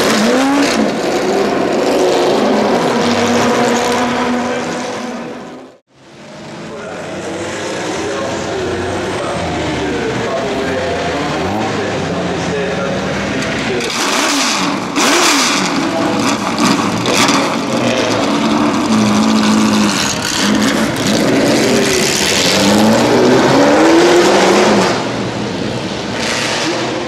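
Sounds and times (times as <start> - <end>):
car engine revving: 0.0 - 5.8, 6.7 - 27.0.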